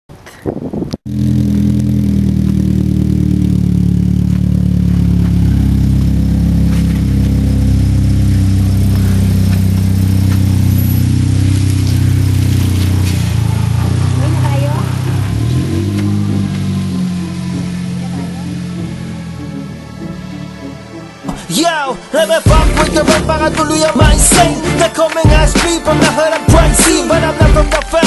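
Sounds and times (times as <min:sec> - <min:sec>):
car engine droning: 0:01.1 - 0:28.0.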